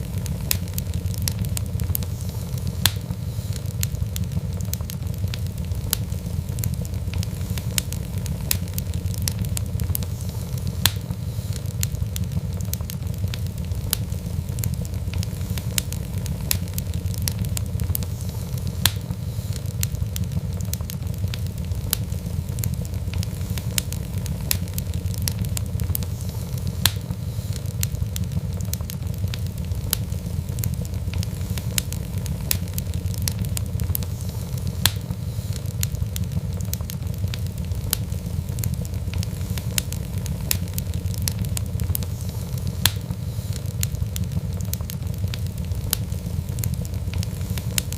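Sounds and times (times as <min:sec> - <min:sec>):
fireplace fire crackling: 0:00.0 - 0:47.9
louder snap of fire: 0:00.0 - 0:47.9
low rumble of flames: 0:00.0 - 0:47.9.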